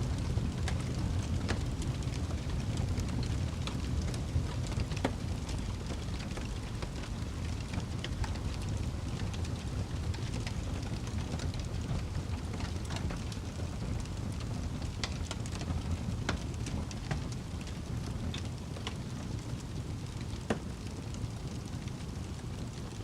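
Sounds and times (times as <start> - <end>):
fire crackling and popping: 0.0 - 23.0
fire roaring: 0.0 - 23.0.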